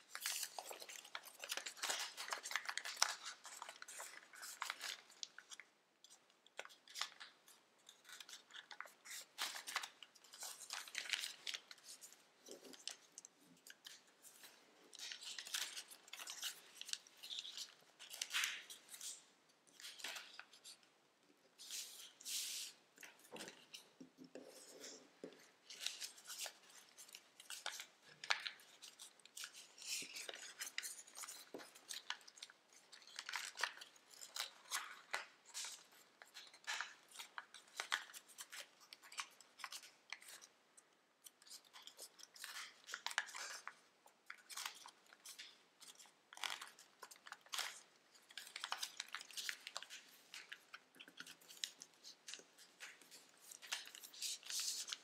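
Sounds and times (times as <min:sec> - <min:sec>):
paper rustling and crackling: 0:00.0 - 0:20.8, 0:21.6 - 0:40.5, 0:41.3 - 0:55.0.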